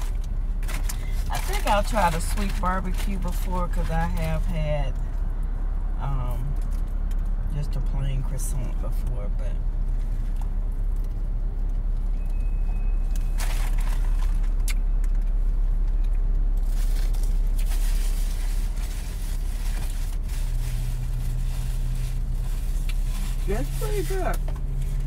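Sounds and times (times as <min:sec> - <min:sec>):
car idling hum: 0:00.0 - 0:25.0.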